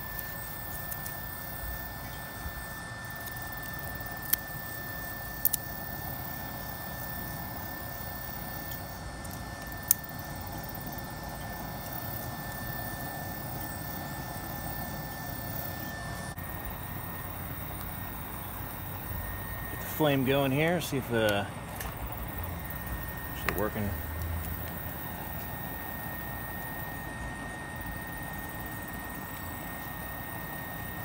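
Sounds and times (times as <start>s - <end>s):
small fan whining: 0.0s - 31.0s.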